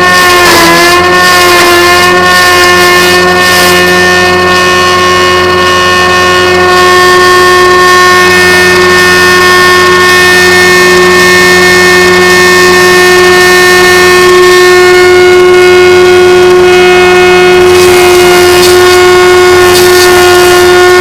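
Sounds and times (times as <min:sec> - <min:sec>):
machine droning whine: 0:00.0 - 0:21.0.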